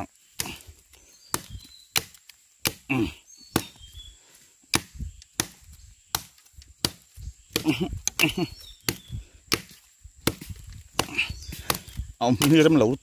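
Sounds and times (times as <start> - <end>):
machete chopping bamboo: 0.3 - 4.0, 4.7 - 12.9.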